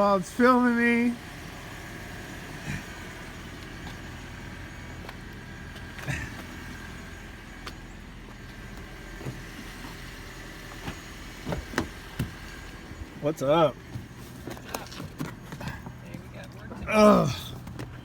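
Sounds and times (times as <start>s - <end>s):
vehicle running hum: 0.0s - 18.0s.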